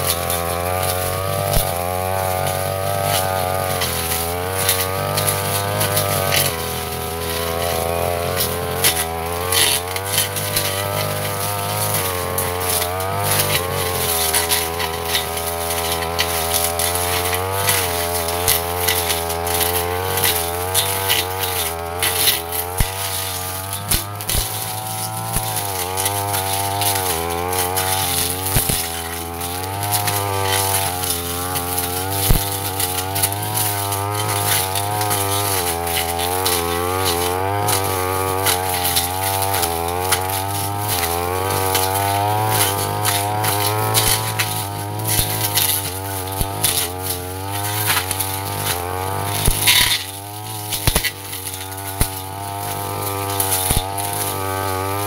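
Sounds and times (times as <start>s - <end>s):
blade cutting undergrowth: 0.0s - 55.0s
brush cutter engine: 0.0s - 55.0s.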